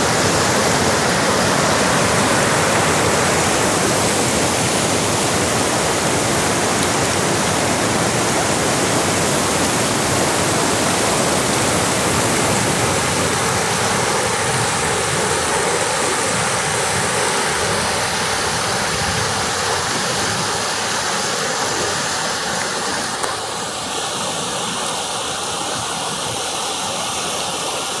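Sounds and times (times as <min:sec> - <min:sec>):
river rapids rushing: 0:00.0 - 0:28.0.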